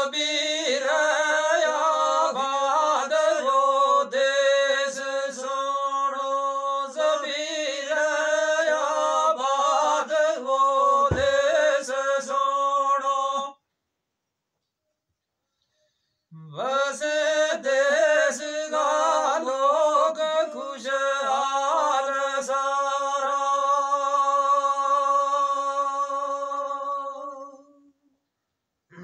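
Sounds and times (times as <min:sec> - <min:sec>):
man singing unaccompanied: 0:00.0 - 0:13.6, 0:16.4 - 0:27.9.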